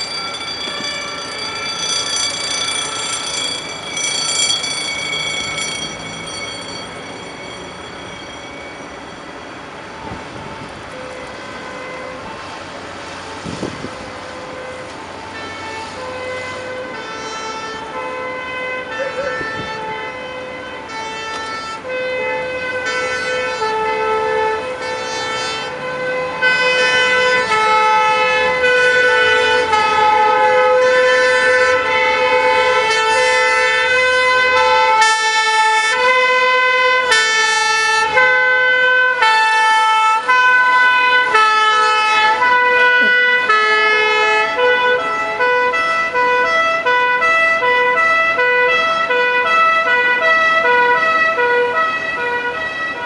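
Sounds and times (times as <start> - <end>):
truck engines: 0.0 - 53.0
two-tone sirens: 0.0 - 53.0.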